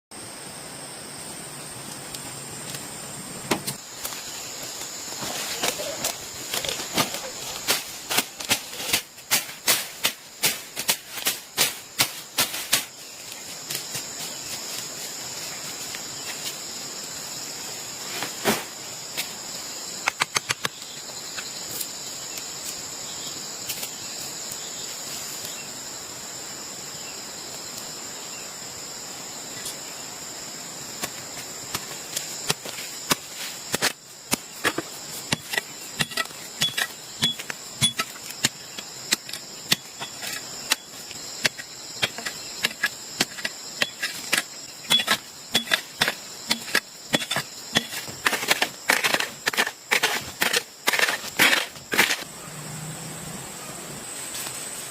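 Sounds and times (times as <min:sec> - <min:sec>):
insects droning: 0:00.1 - 0:54.9.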